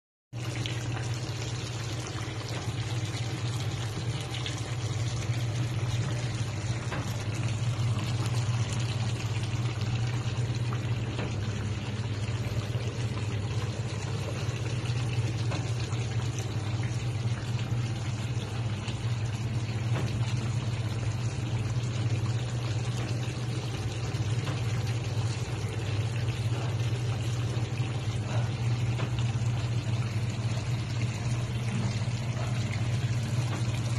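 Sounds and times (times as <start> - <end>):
stew bubbling and sizzling: 0.4 - 33.9.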